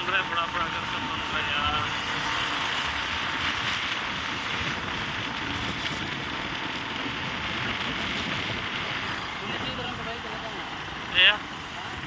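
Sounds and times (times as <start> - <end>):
motorcycle road noise: 0.0 - 12.0
wind rush over microphone: 0.0 - 12.0.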